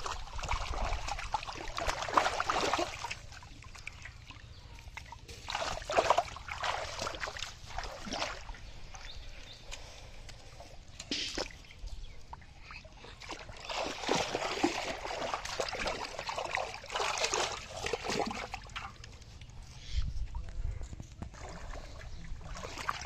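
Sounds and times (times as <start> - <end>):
fish splashing in water: 0.0 - 9.3, 10.8 - 19.5, 21.2 - 23.0.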